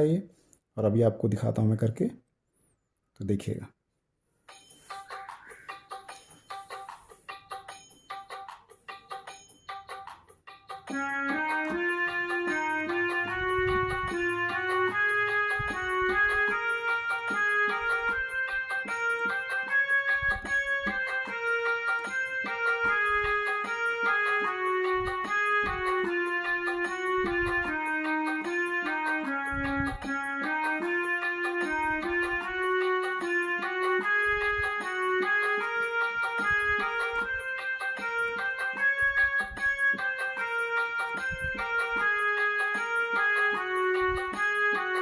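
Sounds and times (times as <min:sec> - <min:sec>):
harmonium melody on keyboard: 0:04.5 - 0:45.0.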